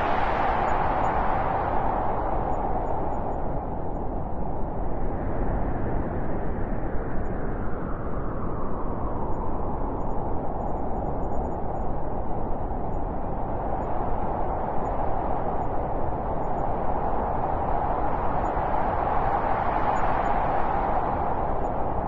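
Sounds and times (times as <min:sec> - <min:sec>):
wind blowing: 0:00.0 - 0:22.0.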